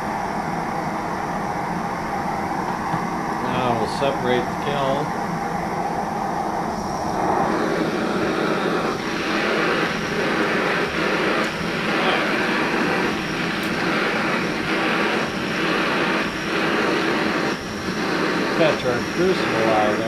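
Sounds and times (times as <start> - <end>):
propane torches roaring: 0.0 - 20.0.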